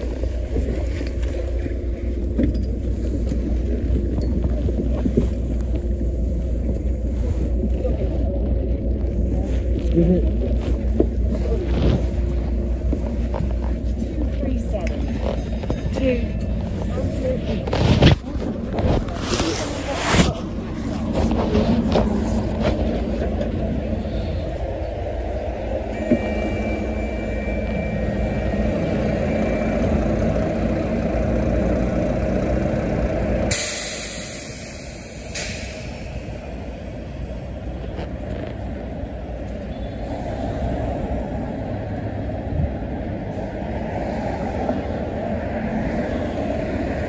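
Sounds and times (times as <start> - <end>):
bus engine running: 0.0 - 47.0.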